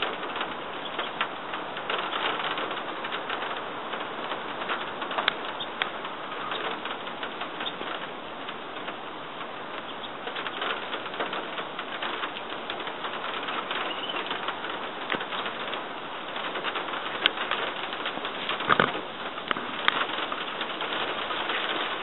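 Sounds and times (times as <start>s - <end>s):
rain falling through trees: 0.0s - 22.0s.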